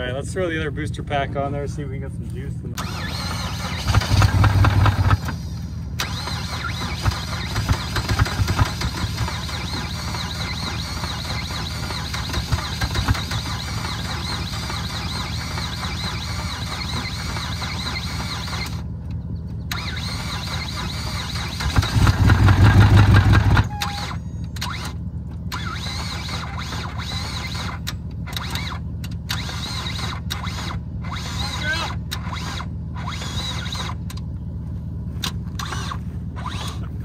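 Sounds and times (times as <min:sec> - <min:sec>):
car starter cranking: 0:02.7 - 0:34.3, 0:35.2 - 0:36.9.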